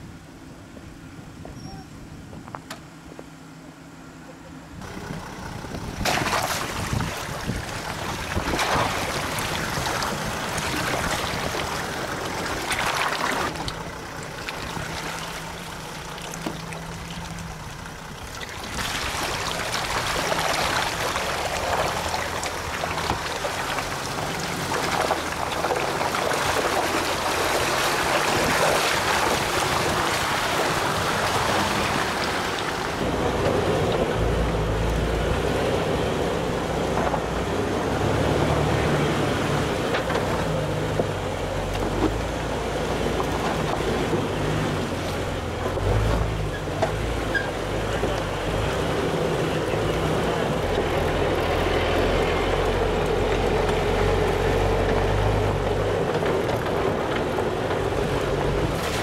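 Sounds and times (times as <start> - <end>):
engine running at crawling speed: 0.0 - 59.0.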